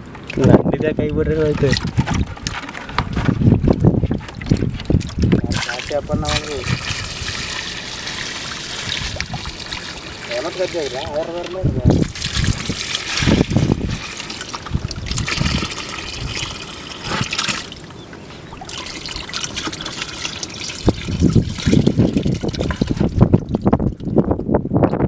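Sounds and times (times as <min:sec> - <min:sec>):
water pouring into bucket: 0:01.3 - 0:02.6, 0:03.6 - 0:17.9, 0:18.5 - 0:24.3.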